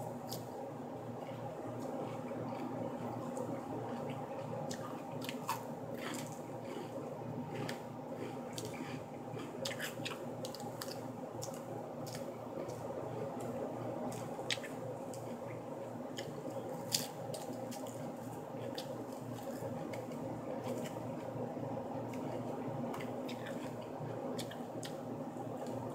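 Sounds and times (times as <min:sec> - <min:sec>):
person chewing lettuce: 0:00.1 - 0:00.5, 0:01.2 - 0:25.9.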